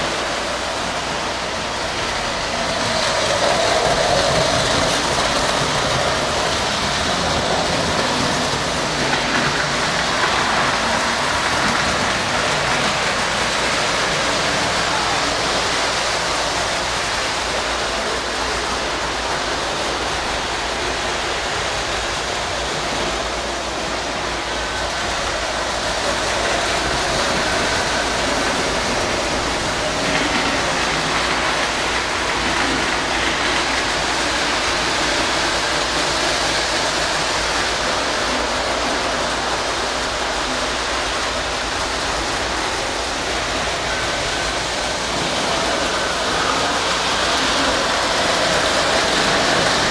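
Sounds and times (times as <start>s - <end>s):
model trains running on metal track: 0.0s - 49.9s.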